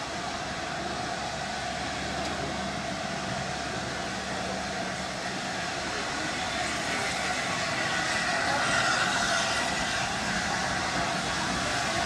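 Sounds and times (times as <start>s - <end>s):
steam locomotive rumble and hiss: 0.0s - 12.0s.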